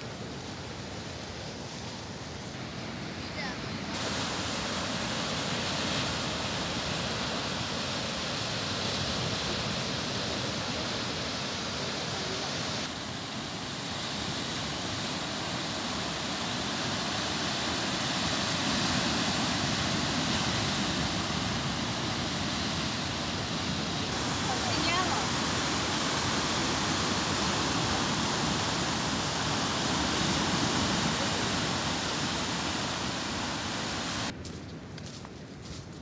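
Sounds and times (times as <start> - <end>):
surf washing over rocks: 0.0 - 34.4.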